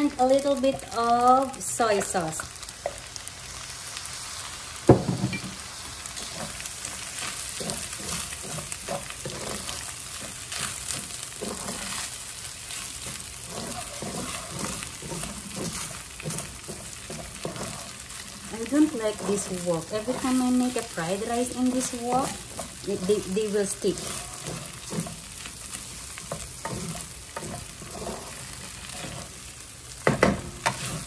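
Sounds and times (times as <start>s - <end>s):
rice sizzling in a wok: 0.0s - 31.0s
wooden spatula scraping a pan: 6.1s - 31.0s.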